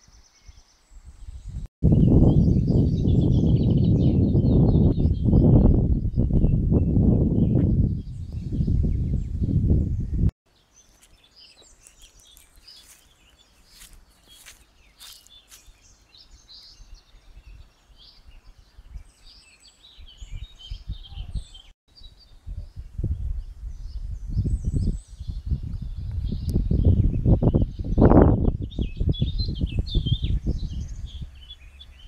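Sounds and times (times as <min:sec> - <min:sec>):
wind rumble on microphone: 0:00.0 - 0:10.3, 0:15.6 - 0:32.0
small birds chirping: 0:00.0 - 0:32.0.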